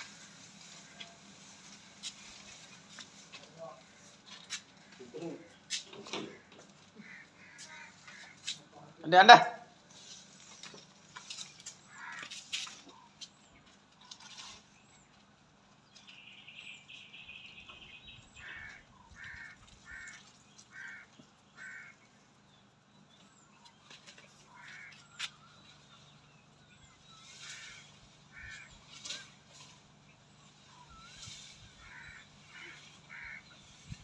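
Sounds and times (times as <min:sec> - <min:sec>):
birds calling: 0:00.0 - 0:08.7, 0:09.8 - 0:34.0.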